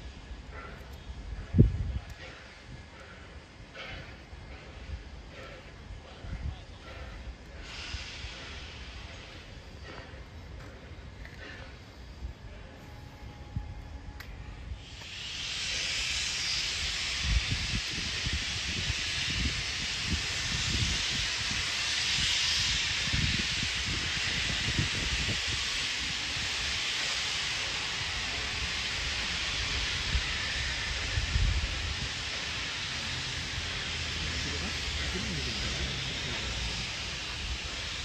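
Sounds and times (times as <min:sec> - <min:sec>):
locomotive steam hissing: 0:00.0 - 0:38.0.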